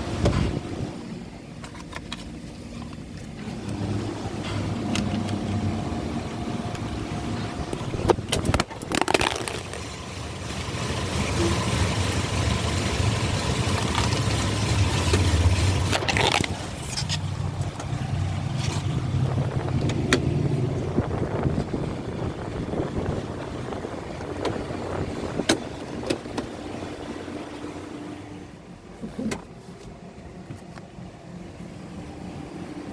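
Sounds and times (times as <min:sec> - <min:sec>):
low motor hum: 0:02.4 - 0:32.9.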